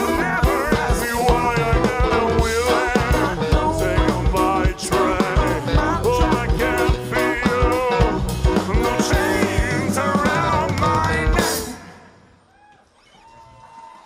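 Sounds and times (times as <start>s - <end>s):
person singing: 0.0s - 12.1s
live band playing: 0.0s - 12.2s.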